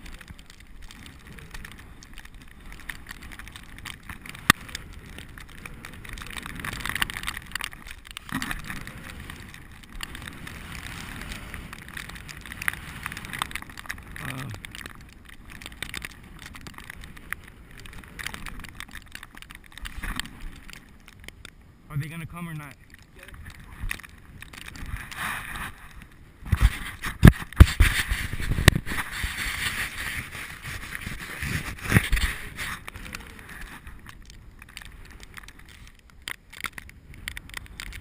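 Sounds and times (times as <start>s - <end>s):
bicycle tyres on snow: 0.0s - 38.0s
bike rattling: 0.0s - 38.0s.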